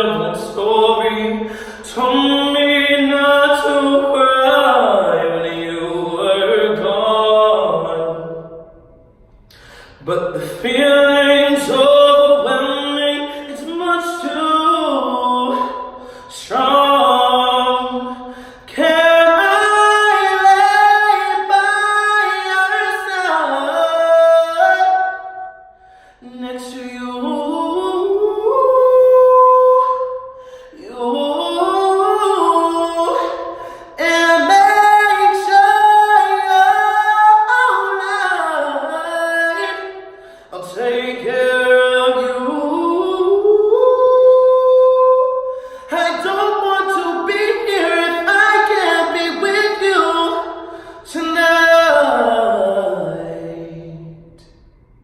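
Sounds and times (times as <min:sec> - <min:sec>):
man singing wordless: 0:00.0 - 0:08.8, 0:09.9 - 0:54.5.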